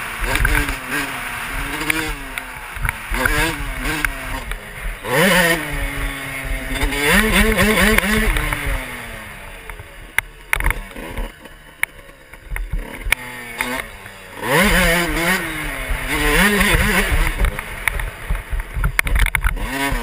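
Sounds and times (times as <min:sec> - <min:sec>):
motocross engine revving: 0:00.0 - 0:20.0.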